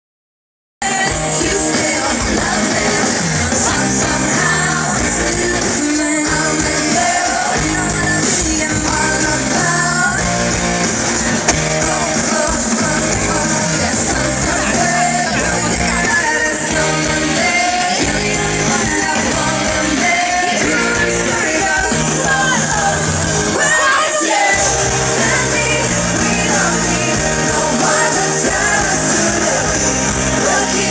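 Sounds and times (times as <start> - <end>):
live rock band with singer: 0.8 - 30.9.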